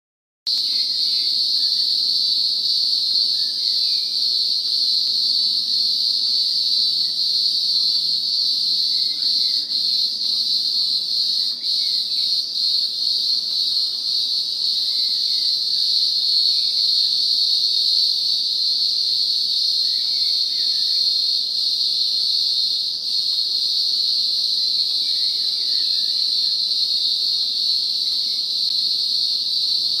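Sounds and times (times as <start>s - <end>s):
cicada buzzing drone: 0.5s - 30.0s.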